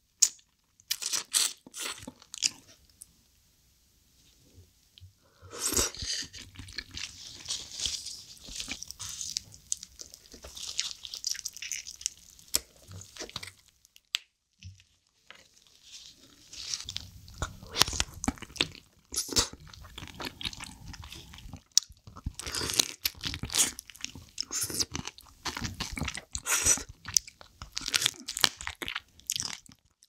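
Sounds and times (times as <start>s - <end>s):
wet chewing and crunching of crab: 5.7s - 30.0s.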